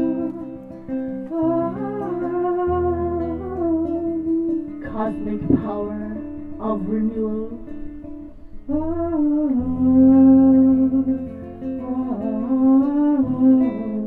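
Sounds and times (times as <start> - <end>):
woman singing long notes: 0.0 - 7.8, 8.7 - 14.0
acoustic guitar: 0.0 - 14.0.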